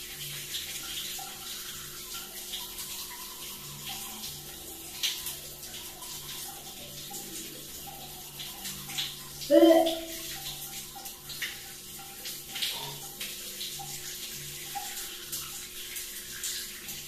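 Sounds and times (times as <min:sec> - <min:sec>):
shower spray running: 0:00.0 - 0:17.0.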